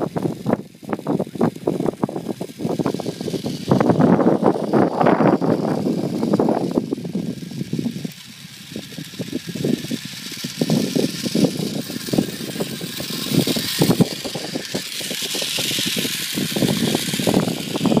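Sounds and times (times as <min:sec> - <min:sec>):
toy truck tires hissing on sand: 0:00.0 - 0:18.0
wind buffeting microphone: 0:00.0 - 0:18.0.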